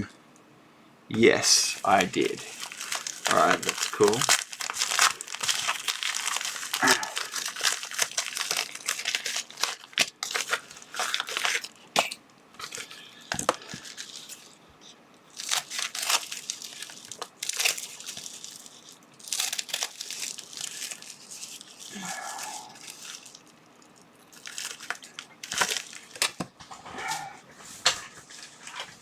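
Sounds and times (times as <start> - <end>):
plastic bags crinkling: 1.5 - 14.6, 15.3 - 26.5.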